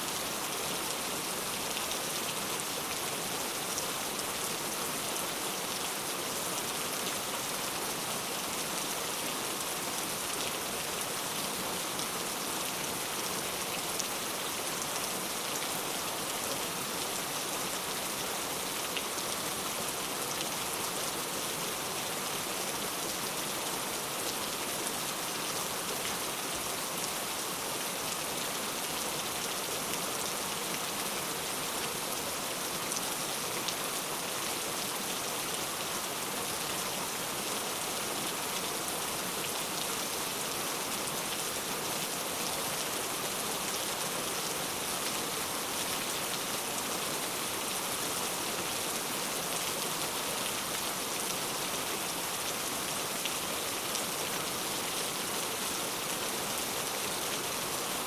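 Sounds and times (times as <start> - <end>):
heavy rain on surfaces: 0.0 - 58.0.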